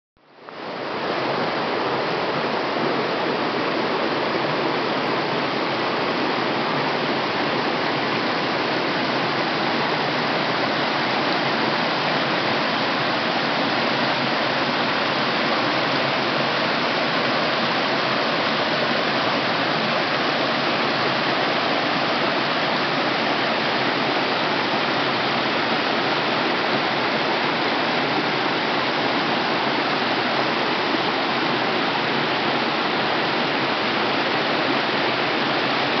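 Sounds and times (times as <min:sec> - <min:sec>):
stream cascading over rocks: 0:00.2 - 0:36.0.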